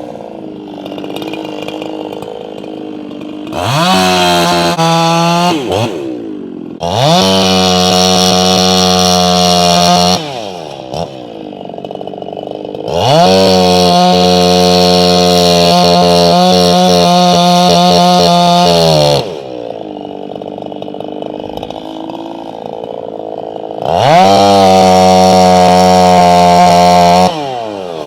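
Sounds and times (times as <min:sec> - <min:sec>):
chainsaw idling and revving: 0:00.0 - 0:28.0.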